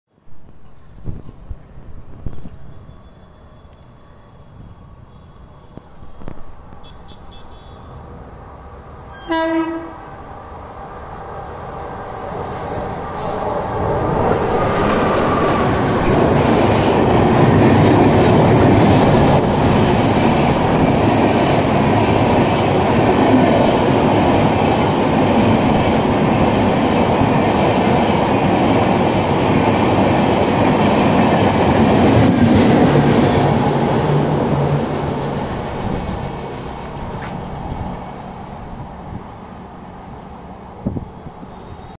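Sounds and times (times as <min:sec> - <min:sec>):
train wheels rumbling on rails: 0:05.6 - 0:41.9.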